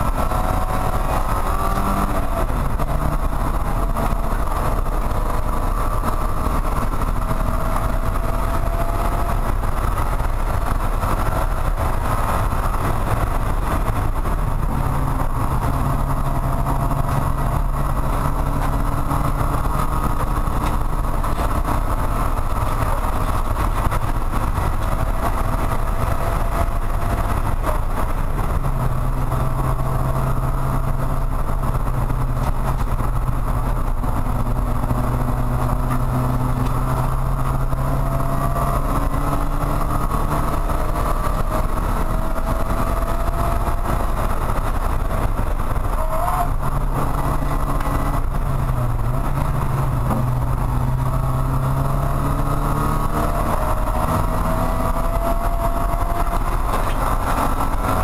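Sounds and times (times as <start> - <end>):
race car engine running hard: 0.0 - 58.0
road noise: 0.0 - 58.0.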